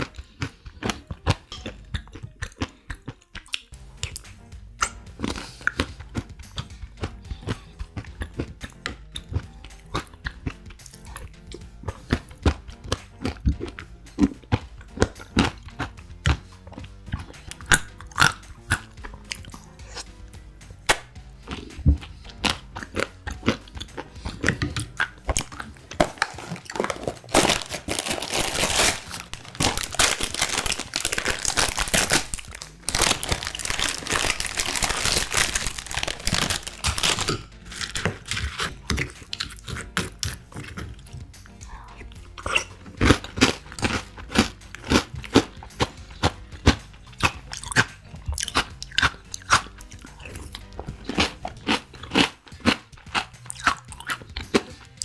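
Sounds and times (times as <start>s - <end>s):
mouth eating sounds: 0.0s - 20.3s, 20.9s - 55.0s.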